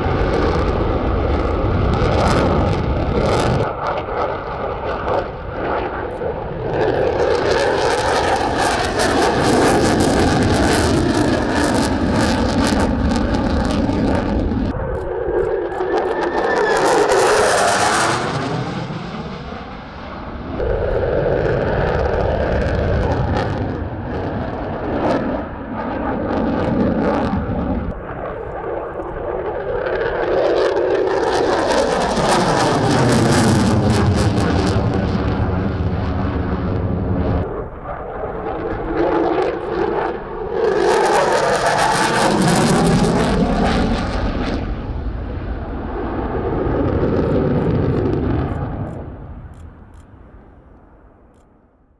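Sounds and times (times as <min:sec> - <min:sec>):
jet engine passing overhead: 0:00.0 - 0:51.7.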